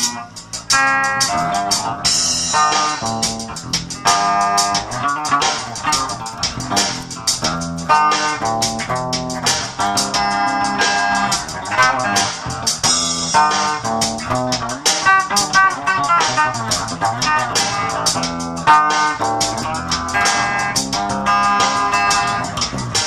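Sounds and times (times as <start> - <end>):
drum loop: 0.0 - 23.0
electric bass plucked notes: 0.0 - 23.0.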